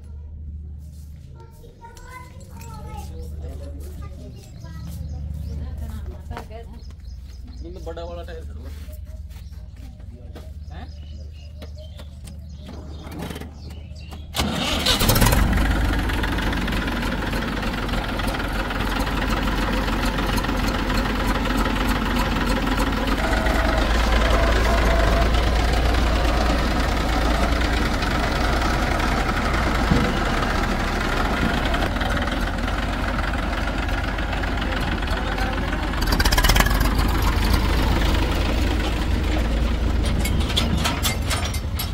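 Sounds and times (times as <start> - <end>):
diesel engine running: 1.9 - 41.9.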